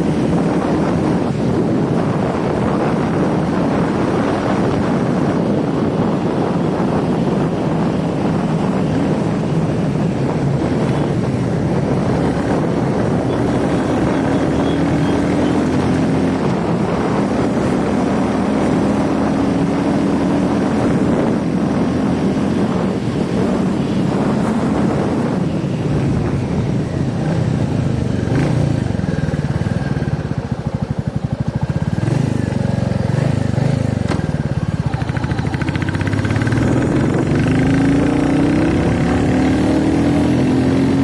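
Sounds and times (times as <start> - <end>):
motorcycle engine running: 0.0 - 41.0
wind noise on microphone: 0.0 - 41.0.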